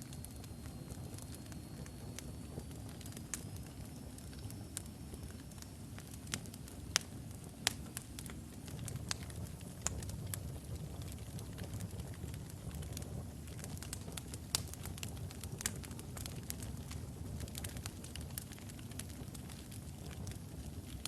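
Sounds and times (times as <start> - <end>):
logs burning in fireplace: 0.0 - 21.0.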